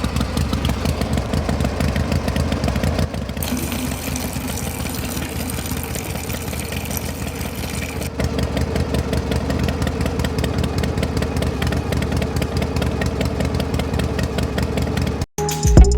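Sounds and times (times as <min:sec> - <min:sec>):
small motor running: 0:00.0 - 0:15.2
fast mechanical clicking: 0:00.0 - 0:15.3.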